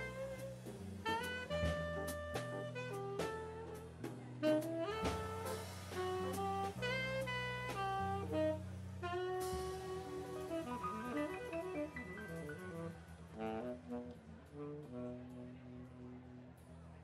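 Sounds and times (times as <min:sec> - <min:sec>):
saxophone solo: 0:00.0 - 0:16.6
bass and drums: 0:00.0 - 0:17.0.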